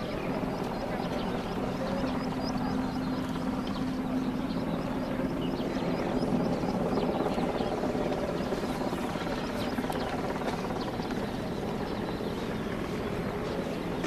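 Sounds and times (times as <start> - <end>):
aircraft motor droning: 0.0 - 14.0.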